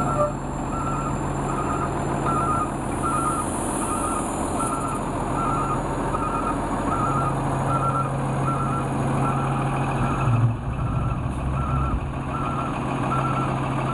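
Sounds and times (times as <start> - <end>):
backup alarm beeping: 0.0 - 13.9
diesel engine idling: 0.0 - 13.9.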